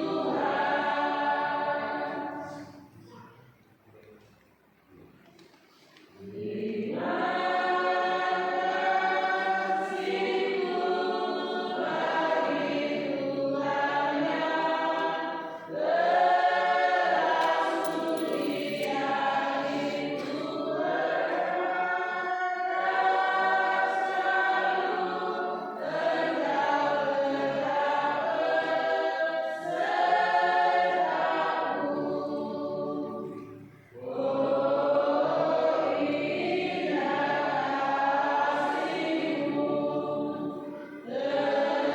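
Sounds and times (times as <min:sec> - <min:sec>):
choir singing: 0:00.0 - 0:02.9, 0:06.2 - 0:41.9.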